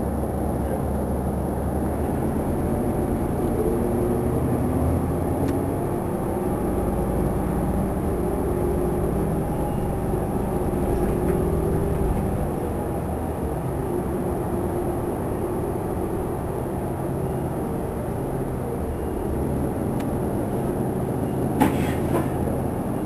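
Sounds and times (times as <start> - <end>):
bus engine humming: 0.0 - 23.0
low road rumble: 0.0 - 23.0.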